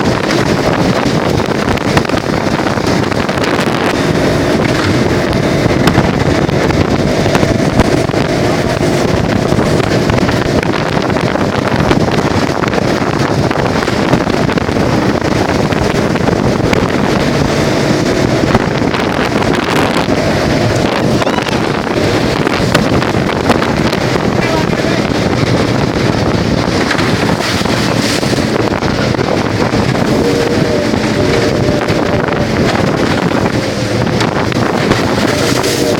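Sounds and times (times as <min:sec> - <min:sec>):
motorboat engine running: 0:00.0 - 0:35.9
wind buffeting microphone: 0:00.0 - 0:35.9.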